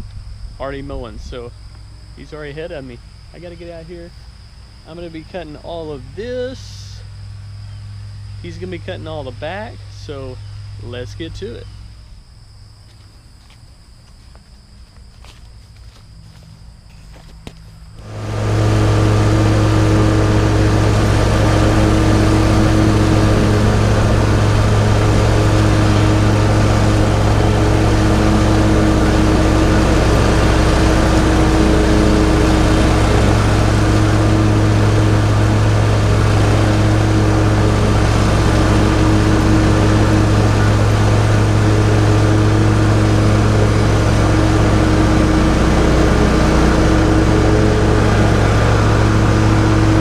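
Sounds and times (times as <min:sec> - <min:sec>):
riding lawn mower engine: 0:00.0 - 0:50.0.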